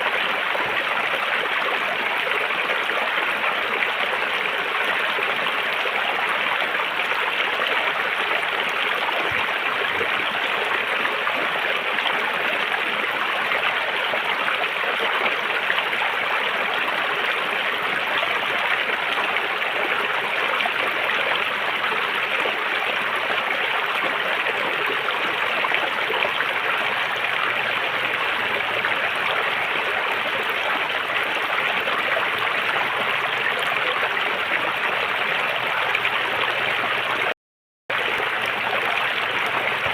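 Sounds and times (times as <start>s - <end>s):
river water over rocks: 0.0s - 37.3s, 37.9s - 39.9s.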